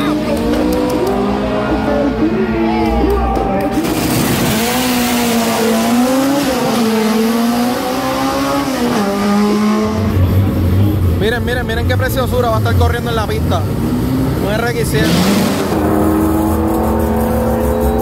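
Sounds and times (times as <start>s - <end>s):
drag car engines revving: 0.0s - 18.0s
roaring engine and exhaust noise: 0.0s - 18.0s.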